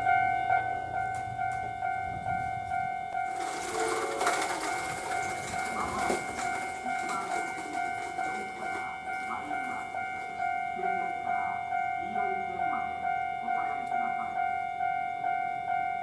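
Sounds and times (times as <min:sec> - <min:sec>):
level crossing warning bell: 0:00.0 - 0:16.0
train wheel and rail noise: 0:00.0 - 0:16.0.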